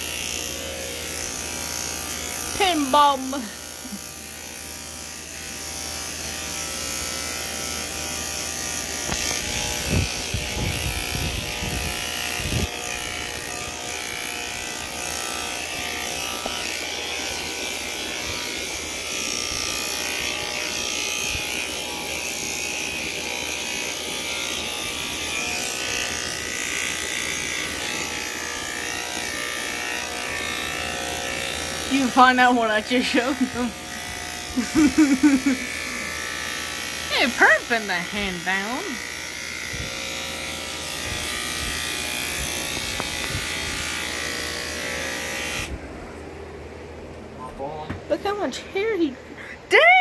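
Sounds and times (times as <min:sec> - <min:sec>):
electric hair clippers buzzing: 0:00.0 - 0:46.3.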